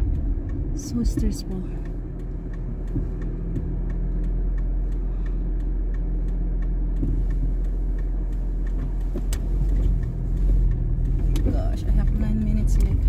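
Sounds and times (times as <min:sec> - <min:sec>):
car driving rumble inside cabin: 0:00.0 - 0:13.0
faint regular ticks: 0:00.1 - 0:13.0.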